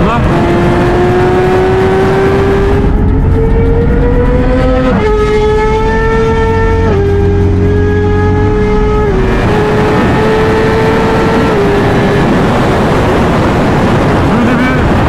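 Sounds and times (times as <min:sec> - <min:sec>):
engine accelerating with upshifts: 0:00.0 - 0:15.0
wind and road noise: 0:00.0 - 0:15.0.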